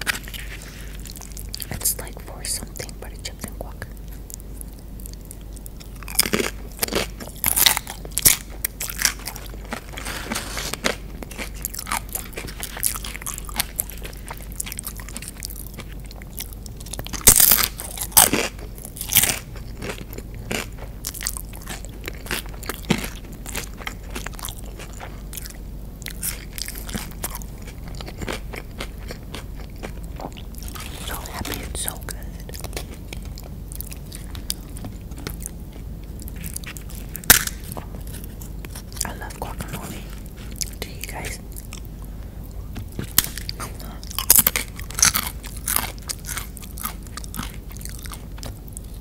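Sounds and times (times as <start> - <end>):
chewing crunchy lettuce: 0.0 - 49.0.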